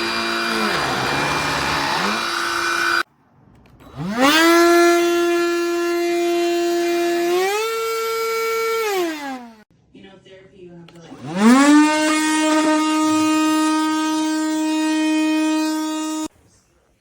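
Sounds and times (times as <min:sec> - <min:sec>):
handheld vacuum motor whining: 0:00.0 - 0:03.1, 0:03.8 - 0:09.6, 0:10.9 - 0:16.3.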